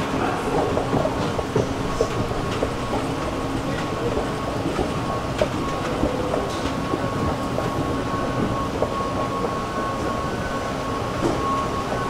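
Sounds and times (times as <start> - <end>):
escalator rumble and hum: 0.0 - 12.0
escalator steps clacking: 0.0 - 12.0.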